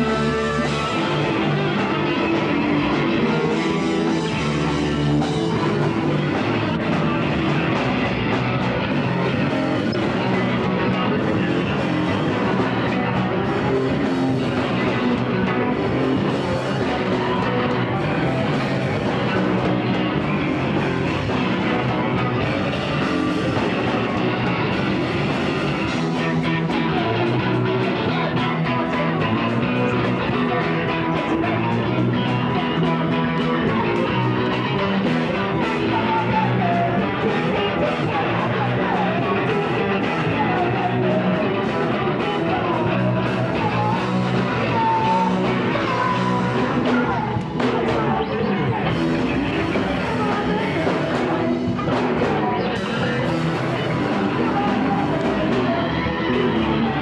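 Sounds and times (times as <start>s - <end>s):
rock music with guitar and drums: 0.0s - 57.0s.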